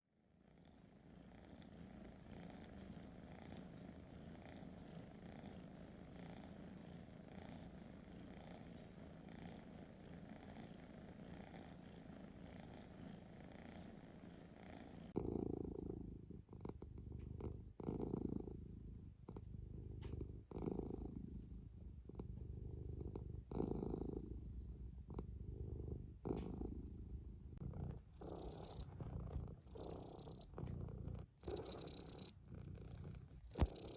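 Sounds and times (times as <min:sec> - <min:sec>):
cat purring: 0:00.3 - 0:33.9.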